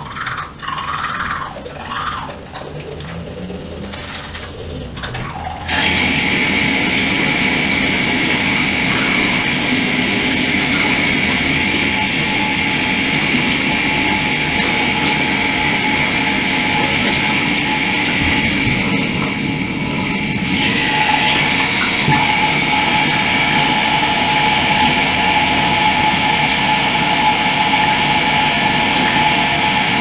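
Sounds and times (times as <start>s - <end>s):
tap running into basin: 1.8s - 30.0s.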